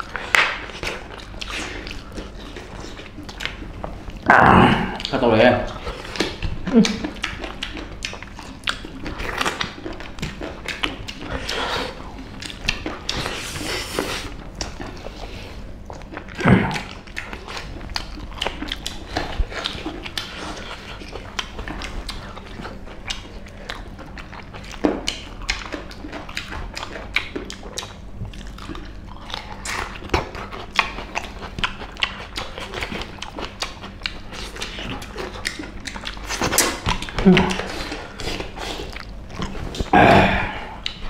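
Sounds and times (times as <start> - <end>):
biting and chewing meat: 0.0 - 41.0.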